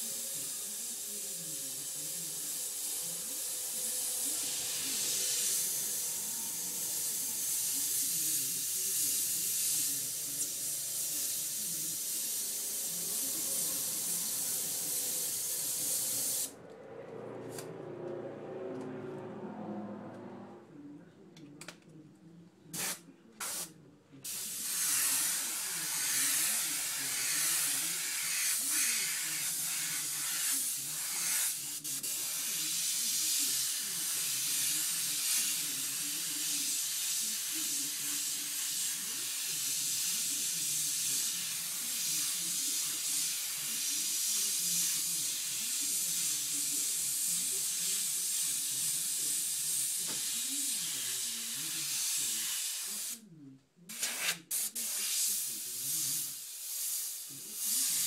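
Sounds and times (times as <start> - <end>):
airbrush spray hiss: 0.0 - 16.5, 22.8 - 53.2, 53.9 - 58.0.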